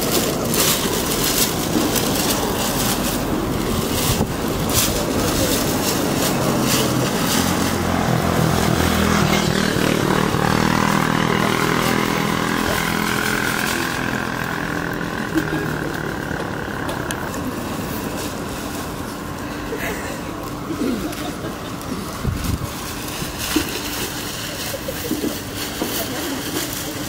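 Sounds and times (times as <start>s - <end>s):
engine droning: 0.0s - 27.0s
rushing noise with crackles: 0.0s - 27.0s.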